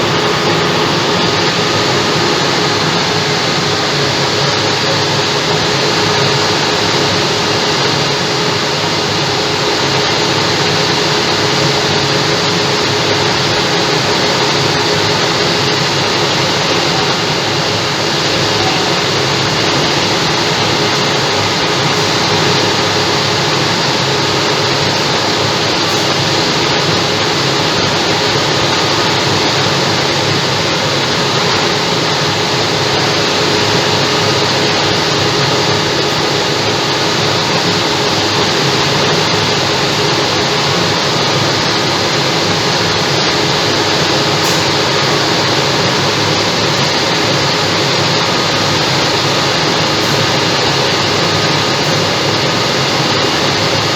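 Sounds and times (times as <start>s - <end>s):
diesel truck engine running: 0.0s - 53.9s.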